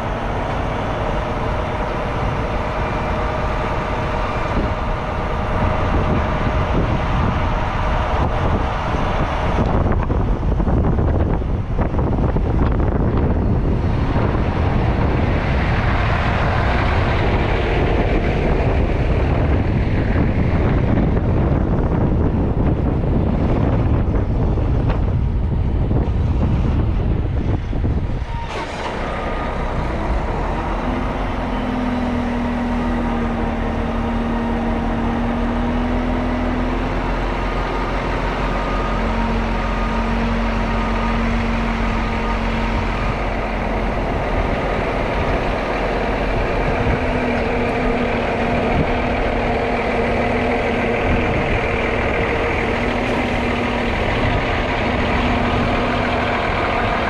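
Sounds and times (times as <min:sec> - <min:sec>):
truck diesel engine running: 0:00.0 - 0:57.0
wind buffeting microphone: 0:00.0 - 0:57.0.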